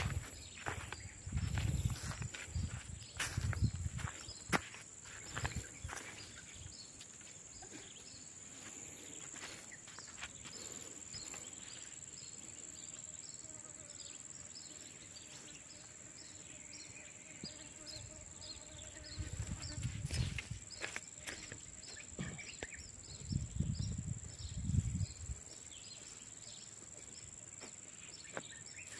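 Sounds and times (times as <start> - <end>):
insect chirps: 0.0 - 28.9
insects droning: 0.0 - 28.9.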